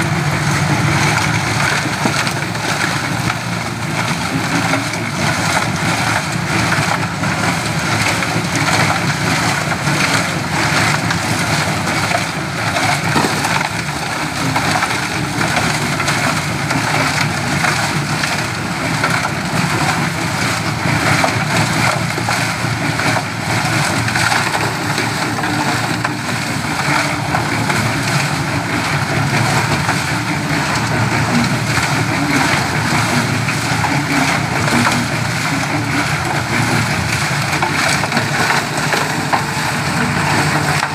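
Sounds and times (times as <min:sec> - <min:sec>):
concrete mixer running: 0:00.0 - 0:40.9.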